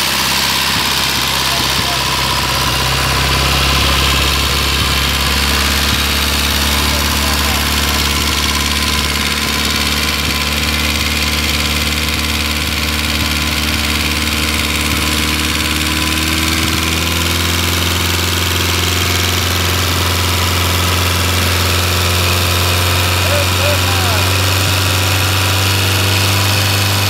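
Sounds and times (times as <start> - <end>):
aircraft engine idling: 0.0 - 27.0.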